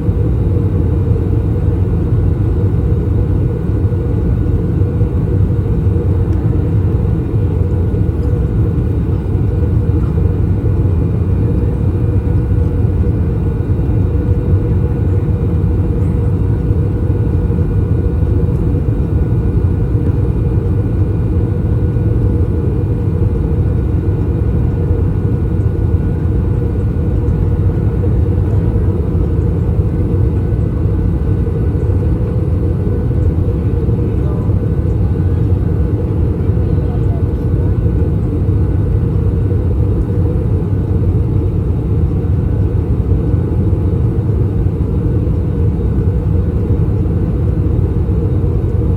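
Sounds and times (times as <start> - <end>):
aircraft cabin rumble: 0.0 - 48.9
faint steady whine: 0.0 - 48.9.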